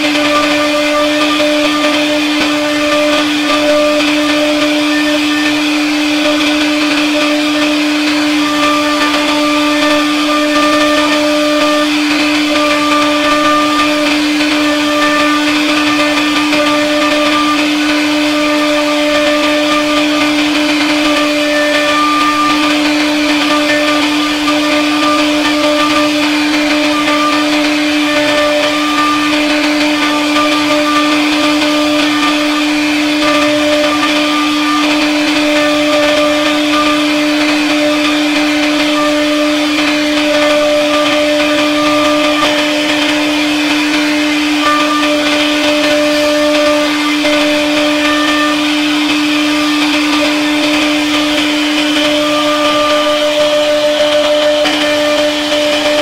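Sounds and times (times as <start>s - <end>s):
router spindle high whine: 0.0s - 56.0s.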